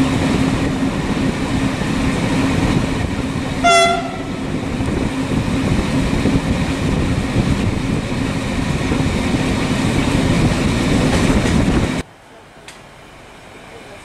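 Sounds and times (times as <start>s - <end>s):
large vehicle engine rumbling: 0.0s - 12.0s.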